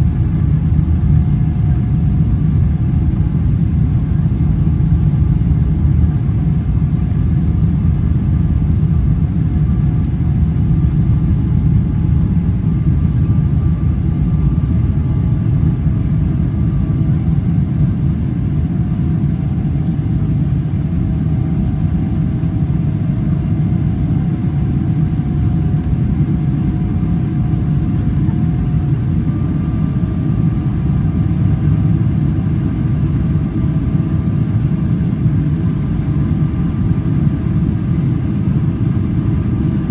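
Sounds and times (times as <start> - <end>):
faint humming tones: 0.0 - 39.9
jet engine low rumble in cabin: 0.0 - 39.9.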